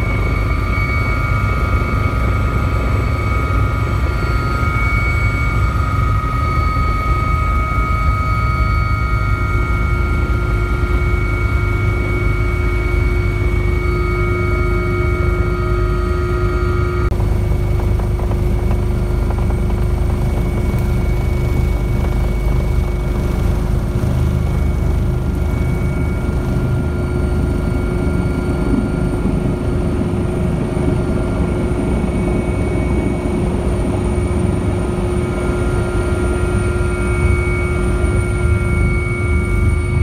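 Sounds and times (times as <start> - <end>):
helicopter engine and rotor noise: 0.0 - 40.0.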